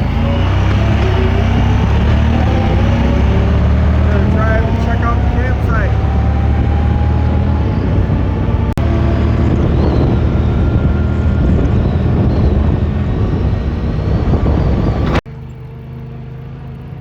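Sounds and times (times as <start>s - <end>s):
wind on microphone: 0.0s - 15.2s
utility vehicle engine drone: 0.0s - 17.0s.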